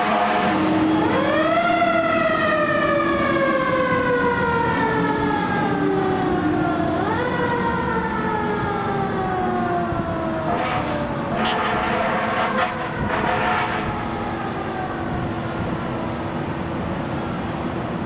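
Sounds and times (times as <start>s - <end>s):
fire engine siren: 0.0s - 18.0s.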